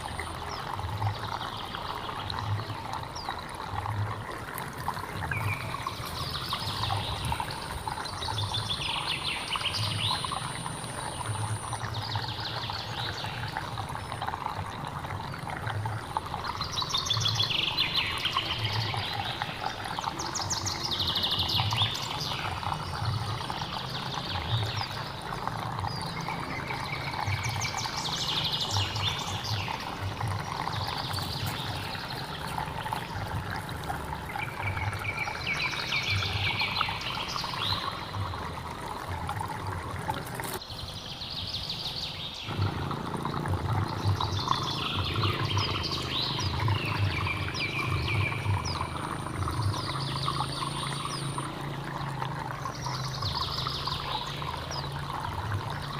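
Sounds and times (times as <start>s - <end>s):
birds chirping: 0.0s - 55.9s
water trickling and pouring: 0.0s - 55.9s.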